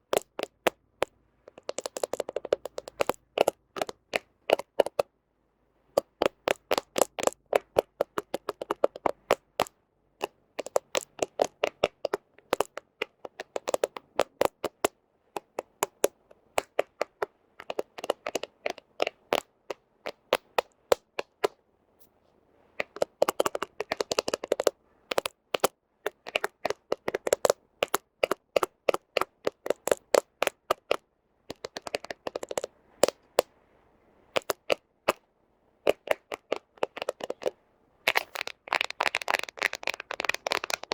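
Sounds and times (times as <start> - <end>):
fingernails tapping on phone lens: 0.0 - 5.1, 6.0 - 21.6, 22.8 - 33.5, 34.3 - 35.2, 35.9 - 40.9.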